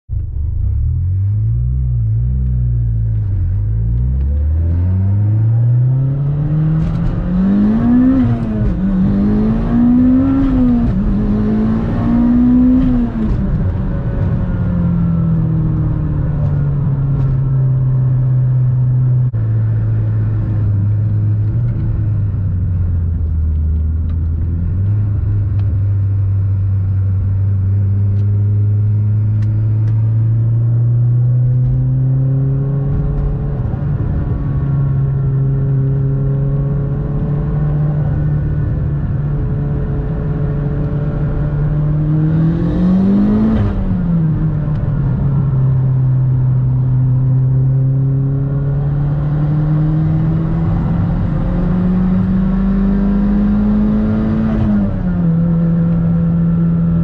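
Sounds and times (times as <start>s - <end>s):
car engine accelerating: 0.1s - 57.0s.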